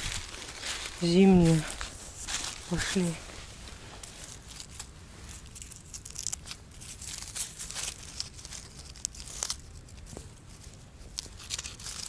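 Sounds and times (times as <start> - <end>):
dry leaves rustling: 0.0 - 12.0
faint low rumble: 0.0 - 12.0.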